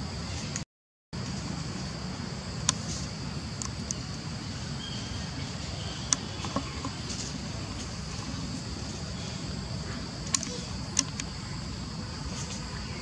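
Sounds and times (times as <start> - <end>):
high insect drone: 1.2 - 13.0.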